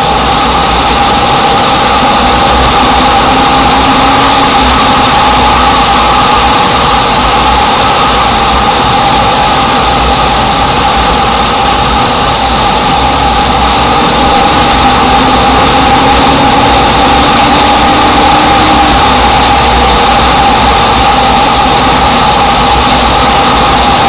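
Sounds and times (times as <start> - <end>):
motor droning and whining: 0.0 - 24.0.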